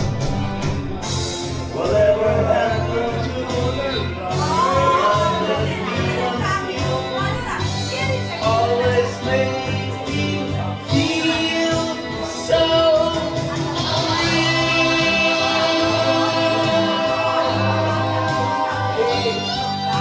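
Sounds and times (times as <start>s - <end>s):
instrumental accompaniment: 0.0s - 20.0s
man singing into microphone: 1.7s - 20.0s.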